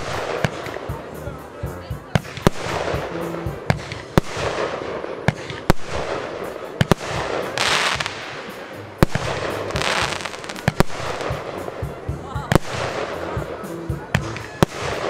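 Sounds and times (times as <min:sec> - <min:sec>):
fireworks bursting with sharp bangs: 0:00.0 - 0:15.0
fireworks hissing: 0:00.0 - 0:15.0.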